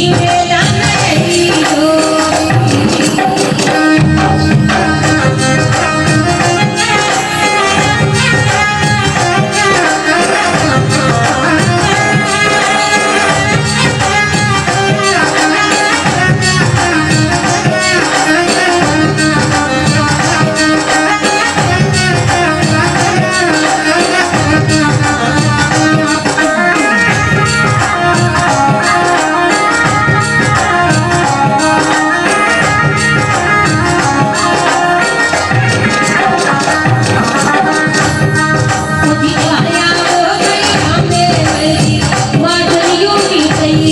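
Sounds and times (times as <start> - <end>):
hand drums: 0.0 - 43.9
folk music melody: 3.6 - 40.0.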